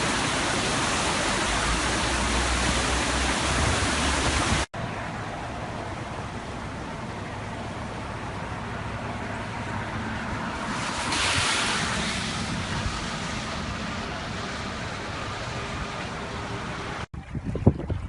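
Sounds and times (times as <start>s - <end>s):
floodwater rushing: 0.0s - 17.1s.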